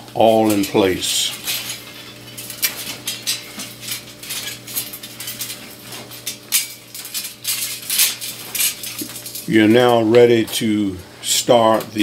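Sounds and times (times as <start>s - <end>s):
metal pinwheels clicking: 0.2s - 11.0s.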